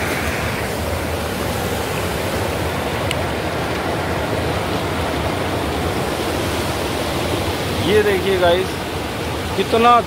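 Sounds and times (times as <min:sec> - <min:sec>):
river rushing over stones: 0:00.0 - 0:10.0.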